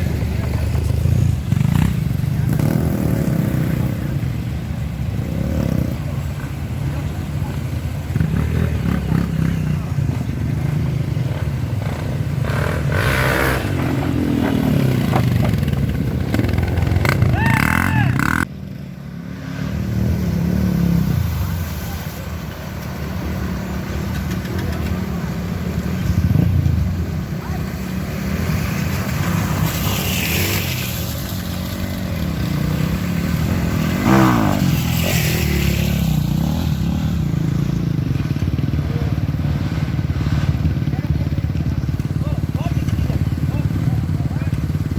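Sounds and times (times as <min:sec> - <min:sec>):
motorcycle engines running: 0:00.0 - 0:44.9.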